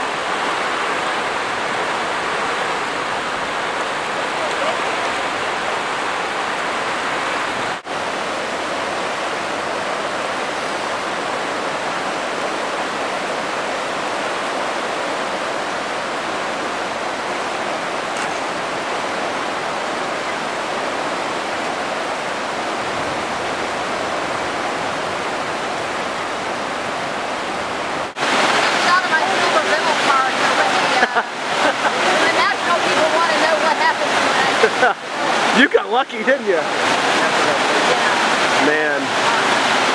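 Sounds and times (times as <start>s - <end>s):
rushing floodwater: 0.0s - 39.9s.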